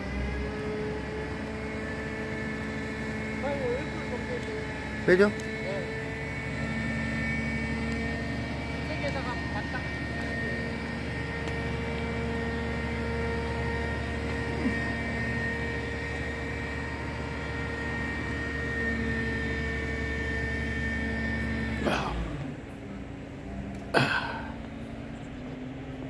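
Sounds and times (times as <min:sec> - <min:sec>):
hydraulic pump whining: 0:00.0 - 0:26.0
truck engine drone: 0:00.0 - 0:26.0.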